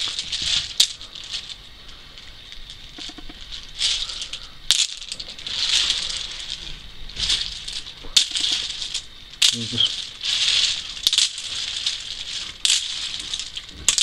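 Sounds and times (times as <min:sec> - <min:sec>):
hazelnuts clattering: 0:00.0 - 0:14.0.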